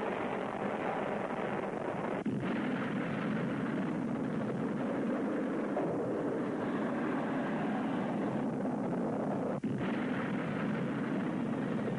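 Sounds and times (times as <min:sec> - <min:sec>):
rocket engines firing: 0:00.0 - 0:11.9.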